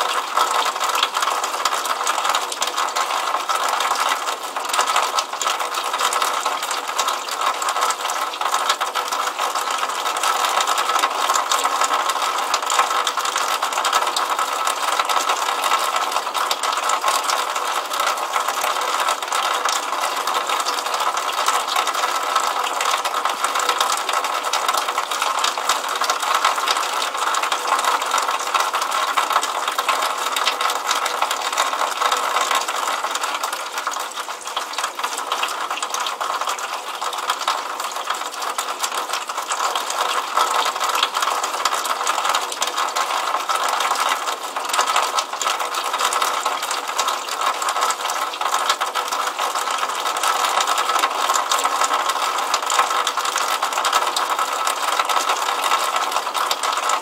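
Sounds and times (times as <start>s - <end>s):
rainwater splashing from drainpipe: 0.0s - 57.0s.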